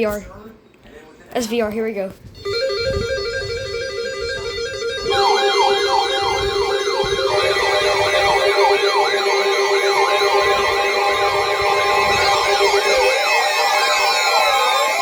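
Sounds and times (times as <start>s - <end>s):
siren-like wail sweeping: 2.4s - 15.0s
warbling two-note alert tone: 2.4s - 15.0s.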